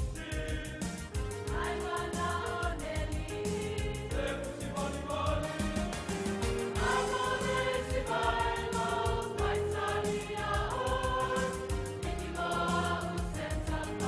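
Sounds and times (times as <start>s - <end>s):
mixed choir singing in harmony: 0.0s - 14.0s.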